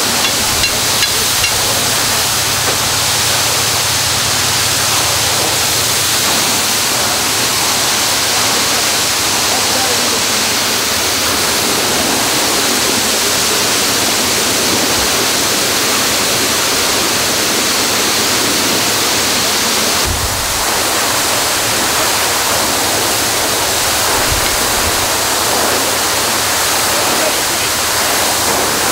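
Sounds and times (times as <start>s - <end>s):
water gushing from fire hydrant: 0.0s - 28.9s.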